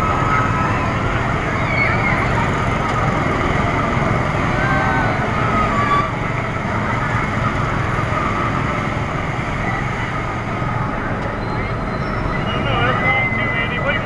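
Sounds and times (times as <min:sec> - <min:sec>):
amusement ride mechanical rumble: 0:00.0 - 0:14.0
faint voices: 0:00.0 - 0:14.0.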